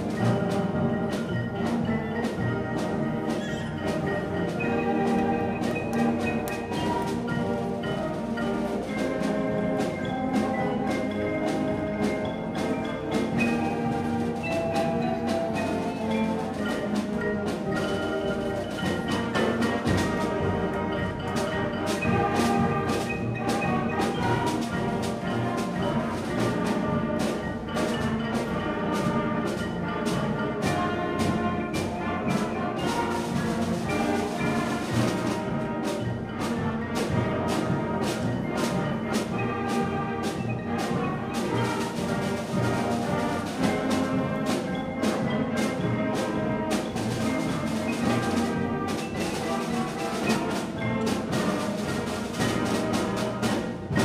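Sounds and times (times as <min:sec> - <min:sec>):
concert band playing a march: 0:00.0 - 0:54.0
percussion strokes: 0:00.0 - 0:54.0.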